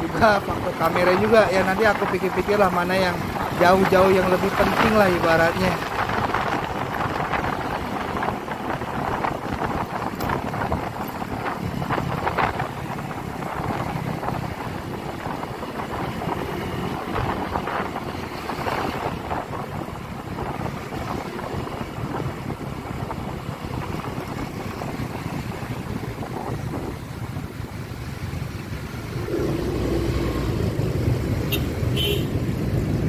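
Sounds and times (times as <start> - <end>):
road noise: 0.0 - 33.0
wind rushing over microphone: 0.0 - 33.0
motorcycle engine: 5.7 - 33.0.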